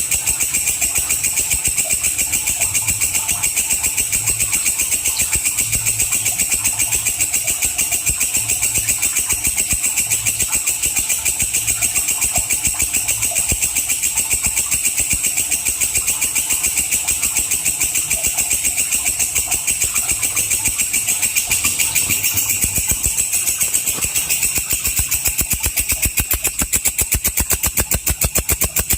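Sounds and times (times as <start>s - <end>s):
katydid stridulating: 0.0s - 28.9s.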